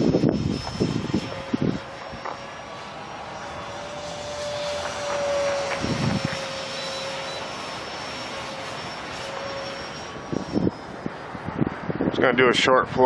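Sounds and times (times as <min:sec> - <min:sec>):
model jet fan whine: 0:00.0 - 0:13.0.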